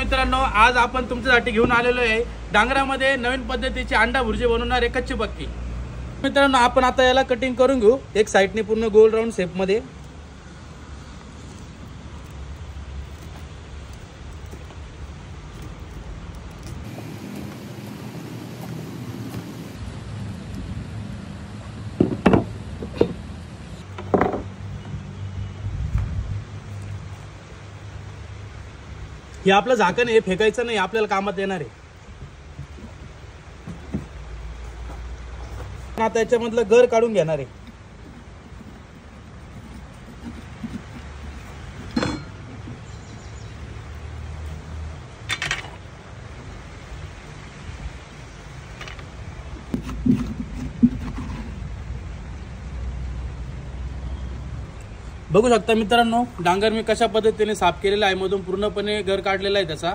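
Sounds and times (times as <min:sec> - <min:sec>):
steady hiss with low hum: 0:00.0 - 0:59.9.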